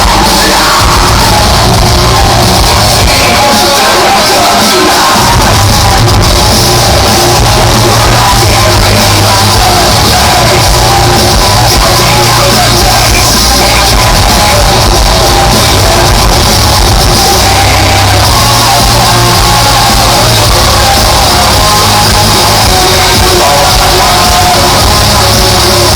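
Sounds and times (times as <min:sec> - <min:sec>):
live death metal band: 0:00.0 - 0:25.9.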